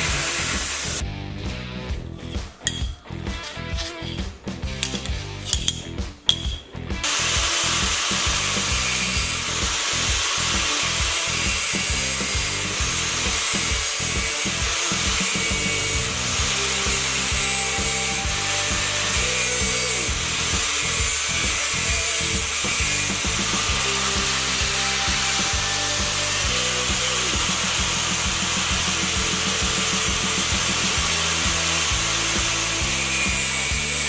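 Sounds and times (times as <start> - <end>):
angle grinder cutting metal: 0.0 - 1.0, 2.2 - 34.0
background music: 0.0 - 34.0.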